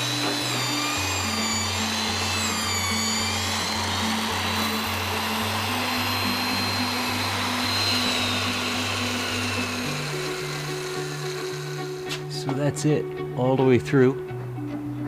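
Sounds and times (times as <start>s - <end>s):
mortiser motor whine: 0.0s - 12.6s.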